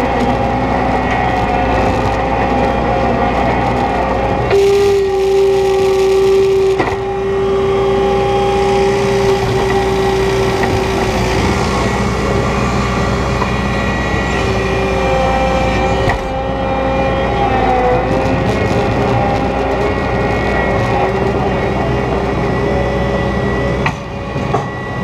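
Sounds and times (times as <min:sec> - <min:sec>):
engine running: 0:00.0 - 0:25.0
high whine: 0:00.0 - 0:25.0.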